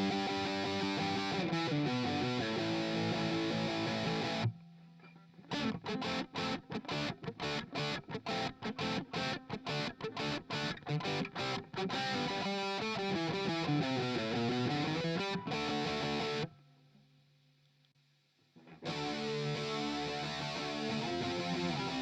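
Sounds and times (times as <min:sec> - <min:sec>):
distorted electric guitar chords: 0:00.0 - 0:04.6, 0:05.5 - 0:16.5, 0:18.7 - 0:22.0.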